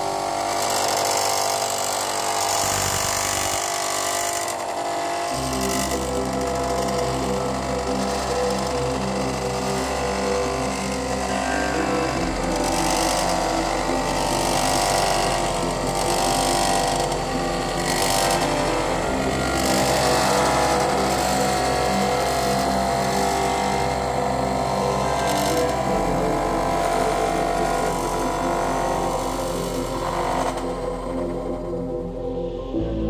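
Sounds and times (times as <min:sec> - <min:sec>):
wood lathe motor humming: 0:00.0 - 0:32.6.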